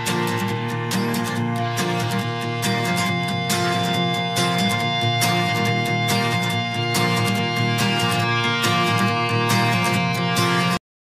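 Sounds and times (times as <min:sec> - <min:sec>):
background music with beat: 0:00.0 - 0:10.8.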